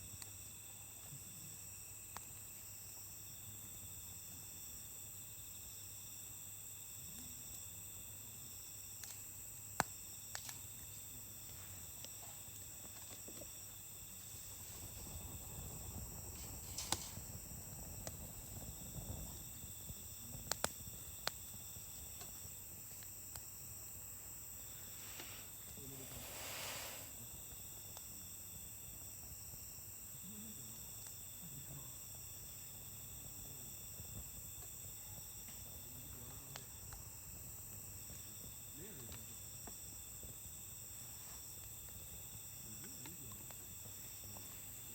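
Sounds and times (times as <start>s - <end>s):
campfire crackling: 0.0s - 44.9s
high-pitched insect chorus: 0.0s - 44.9s.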